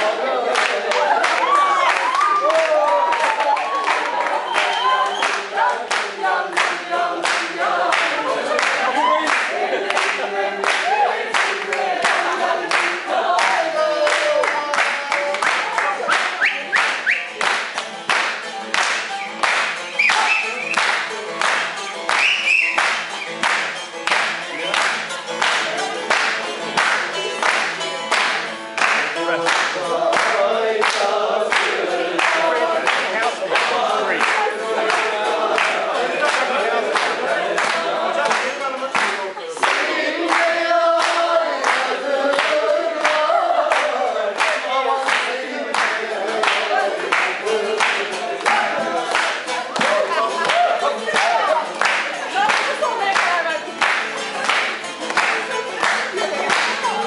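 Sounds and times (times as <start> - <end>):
voices singing along: 0.0 - 17.6, 27.1 - 57.0
people clapping in rhythm: 0.0 - 57.0
saz folk music: 4.1 - 57.0.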